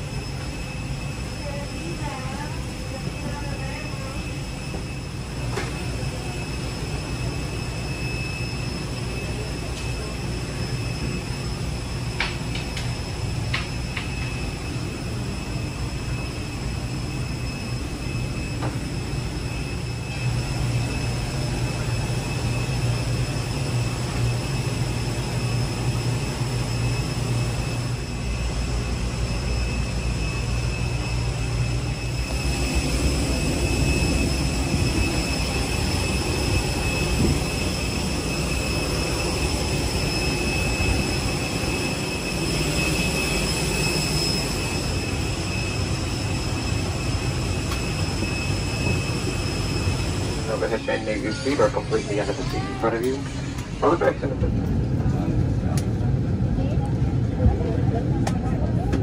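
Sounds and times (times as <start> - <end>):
airliner drone: 0.0 - 59.0
high even whine: 0.0 - 59.0.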